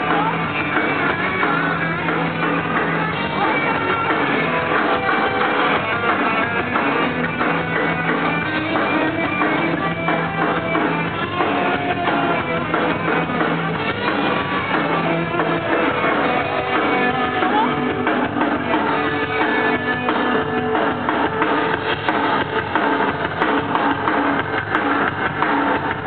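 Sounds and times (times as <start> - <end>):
rock band playing loudly: 0.0 - 26.0.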